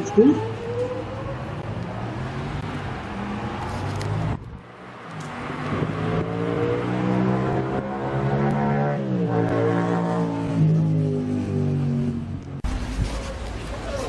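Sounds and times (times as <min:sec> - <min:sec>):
vehicle pulling away: 0:00.0 - 0:14.0.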